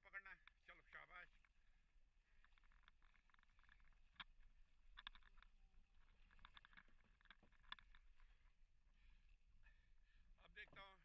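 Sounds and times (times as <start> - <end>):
small clicks and ticks: 0.1 - 10.8.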